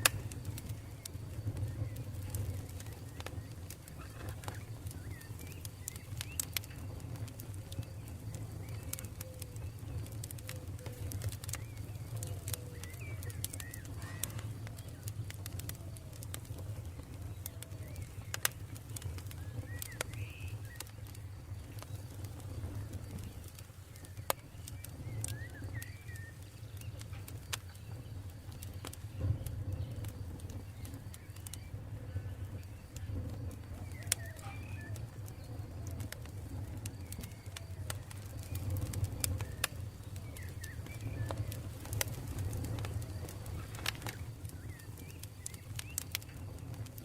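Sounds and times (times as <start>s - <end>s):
campfire crackling: 0.0s - 47.0s
faint bird chirps: 0.0s - 47.0s.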